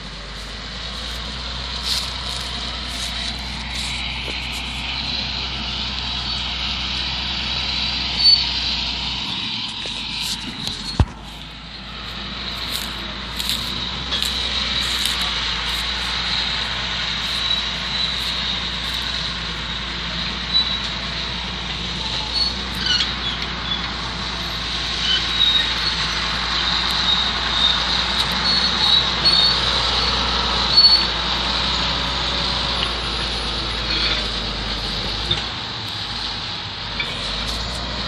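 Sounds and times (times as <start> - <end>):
heavy machine engine rumbling: 0.0 - 38.0.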